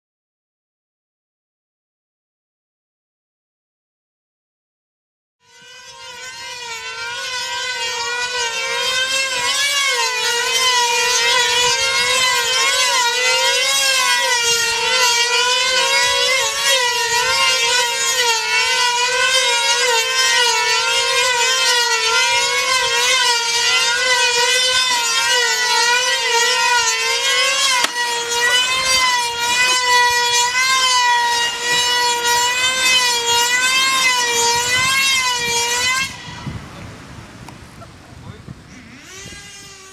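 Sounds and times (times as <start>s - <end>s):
model plane engines whining: 5.4s - 39.9s.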